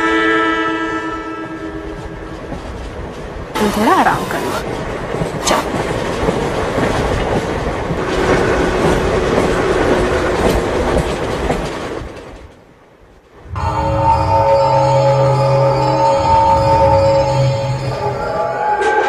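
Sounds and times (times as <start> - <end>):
train rolling on rails: 0.0 - 19.0.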